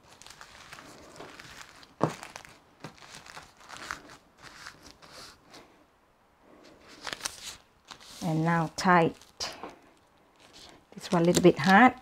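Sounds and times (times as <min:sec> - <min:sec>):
plastic film crinkling: 0:00.0 - 0:05.4, 0:06.8 - 0:12.0.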